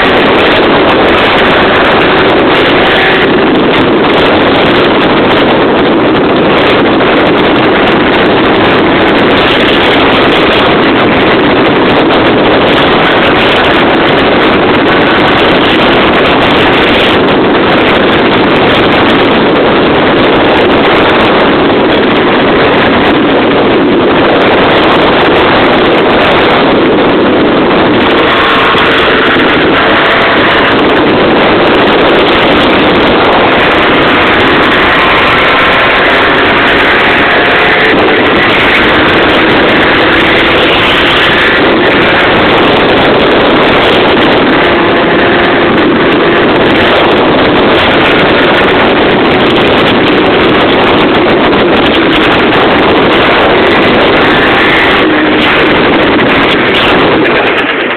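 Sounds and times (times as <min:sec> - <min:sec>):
scooter engine running: 0:00.0 - 0:57.9
wind on microphone: 0:00.0 - 0:57.9.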